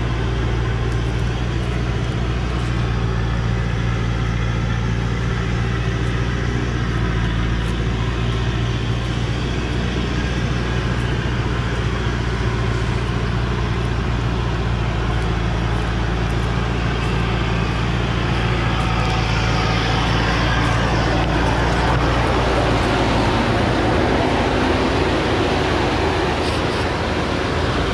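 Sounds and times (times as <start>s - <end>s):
truck diesel engine drone: 0.0s - 27.9s.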